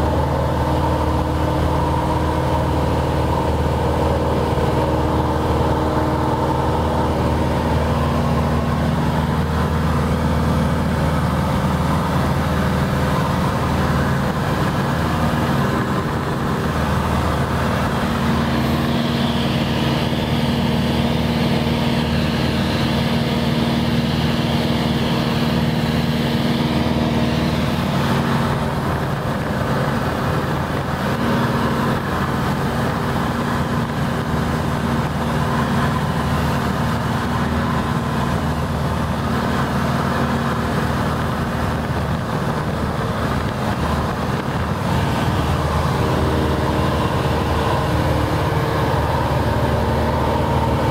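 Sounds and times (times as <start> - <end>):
airflow noise: 0.0 - 50.9
propeller plane engine drone: 0.0 - 50.9.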